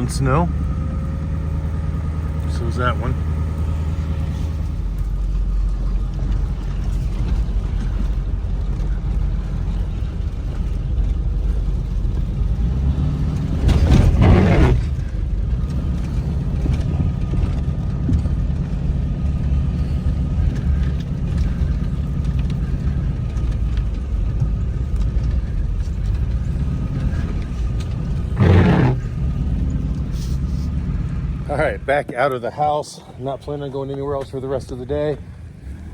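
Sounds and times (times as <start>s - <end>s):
vehicle engine and tyre rumble: 0.0s - 35.9s.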